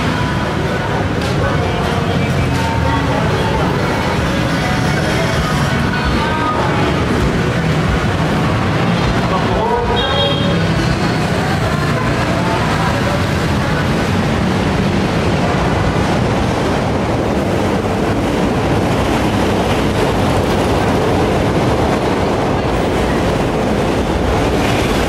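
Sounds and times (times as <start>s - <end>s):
heavy city street traffic: 0.0s - 25.0s.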